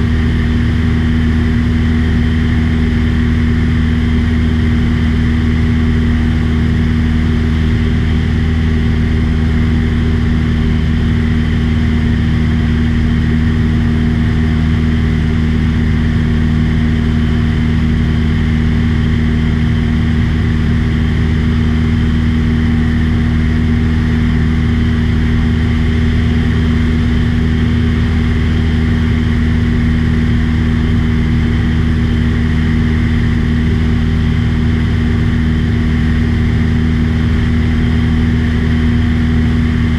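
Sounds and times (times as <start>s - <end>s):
small aircraft engine drone: 0.0s - 39.9s.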